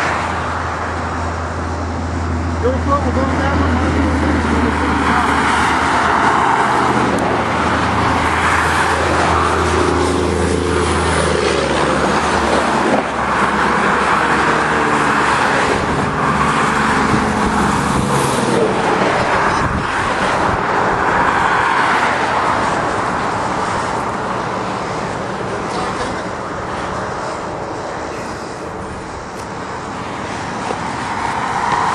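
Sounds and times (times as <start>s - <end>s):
road traffic passing: 0.0s - 31.9s.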